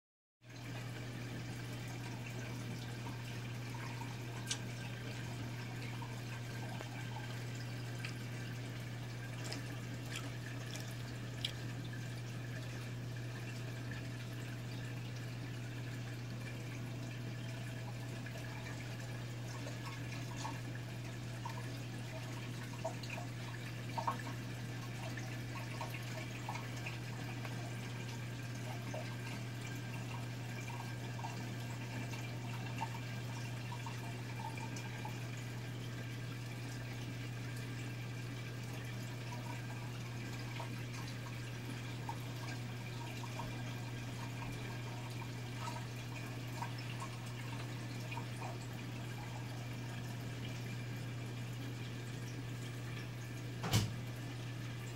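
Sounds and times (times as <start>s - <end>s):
faint water trickle: 0.4s - 54.9s
pump humming: 0.4s - 54.9s
small drip-like ticks: 0.5s - 53.4s.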